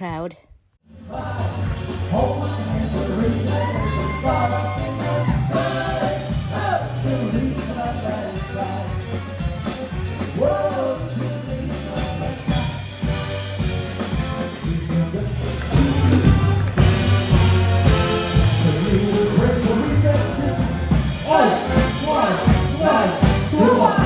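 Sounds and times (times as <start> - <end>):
song with vocals and guitar: 0.9 - 24.0.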